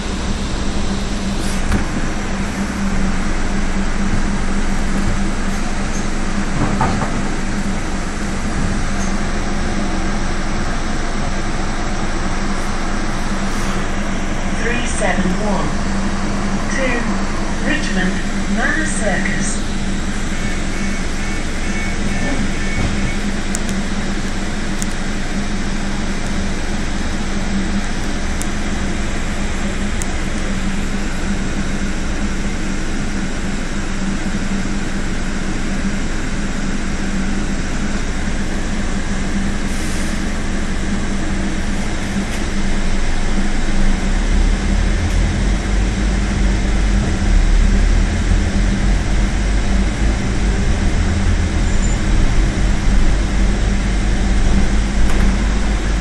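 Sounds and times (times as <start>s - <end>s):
bus diesel engine humming: 0.0s - 56.0s.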